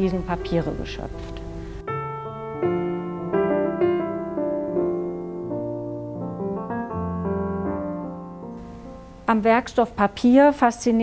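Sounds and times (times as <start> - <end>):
slow piano music: 0.0 - 10.1.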